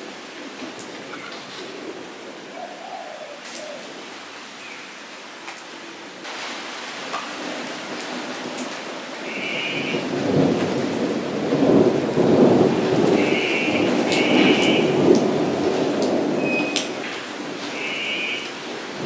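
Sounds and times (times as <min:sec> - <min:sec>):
rain on puddled ground: 0:00.0 - 0:19.0.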